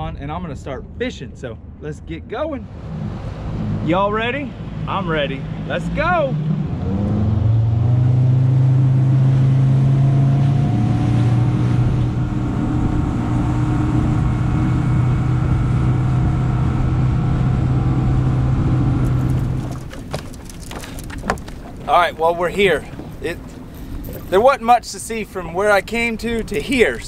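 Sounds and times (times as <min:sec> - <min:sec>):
outboard motor droning: 0:02.7 - 0:27.0.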